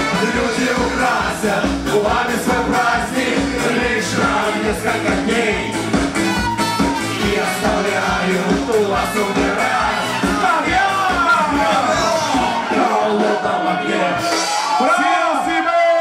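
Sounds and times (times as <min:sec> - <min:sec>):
live band playing dance song: 0:00.0 - 0:15.5.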